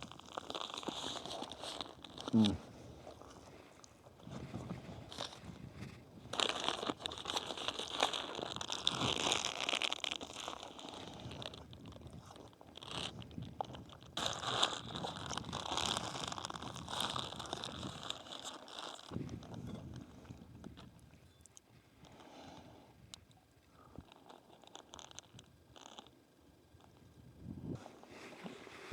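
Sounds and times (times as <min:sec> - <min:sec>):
person crunching sandwich: 0:00.0 - 0:22.5, 0:23.8 - 0:26.2.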